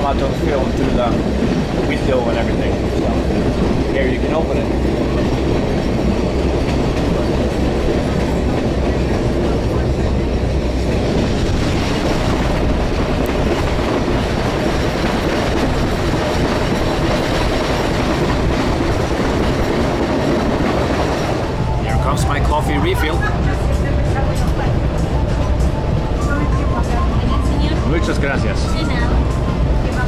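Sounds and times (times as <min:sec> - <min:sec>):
train wheels on rails: 0:00.0 - 0:30.0.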